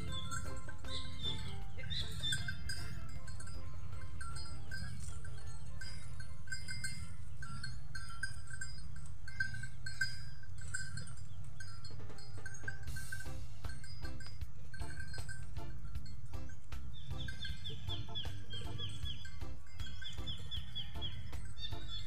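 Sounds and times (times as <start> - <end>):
ox bells clanking: 0.0 - 22.0.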